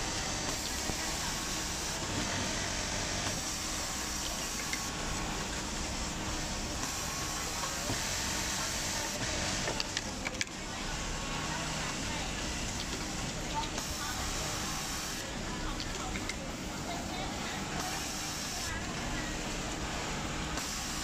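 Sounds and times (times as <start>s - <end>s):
sewing machines whirring: 0.0s - 21.0s.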